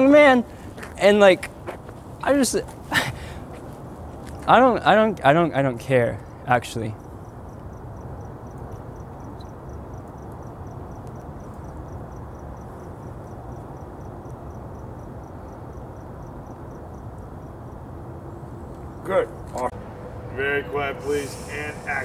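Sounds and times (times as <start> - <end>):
cricket chirping: 2.2 - 20.1.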